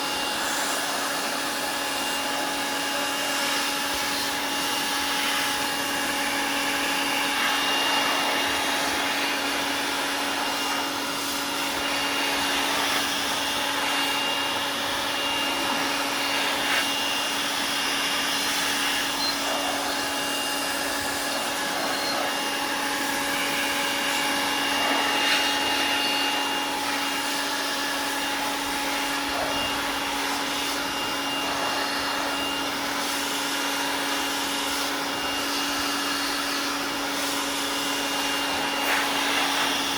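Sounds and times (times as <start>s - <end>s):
electric air blower motor whine: 0.0s - 39.9s.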